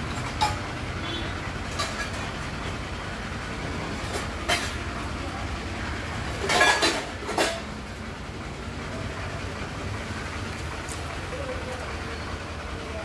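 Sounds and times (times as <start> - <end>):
crane engine rumbling: 0.0 - 13.0.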